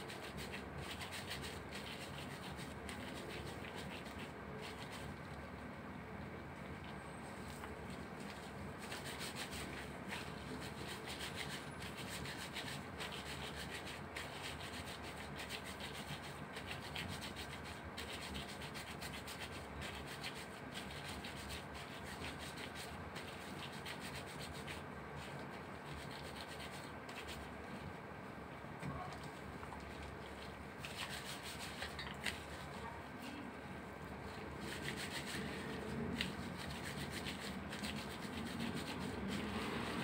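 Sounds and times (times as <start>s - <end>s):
gloved hands squishing meat: 0.0s - 33.2s.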